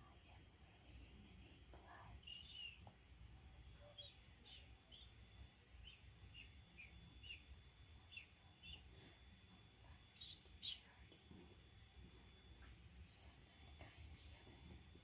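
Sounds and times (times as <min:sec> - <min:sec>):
quiet low hum: 0:00.0 - 0:15.0
faint high chirps: 0:01.8 - 0:02.9, 0:03.6 - 0:15.0.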